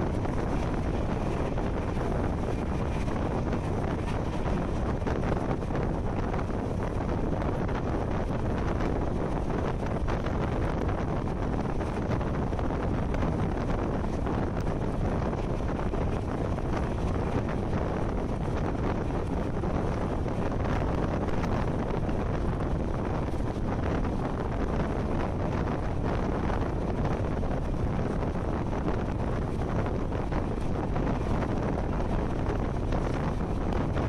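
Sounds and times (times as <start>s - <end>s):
passenger train rumbling: 0.0s - 34.0s
wind rushing over microphone: 0.0s - 34.0s.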